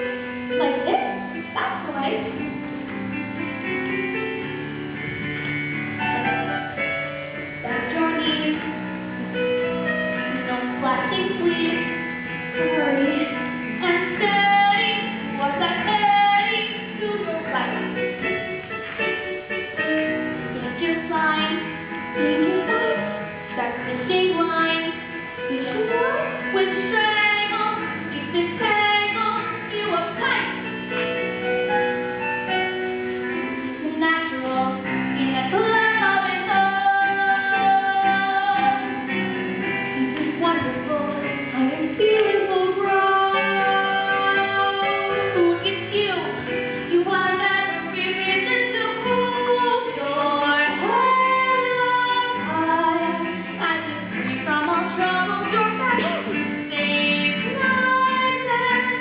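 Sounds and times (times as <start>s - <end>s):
instrumental accompaniment: 0.0s - 59.0s.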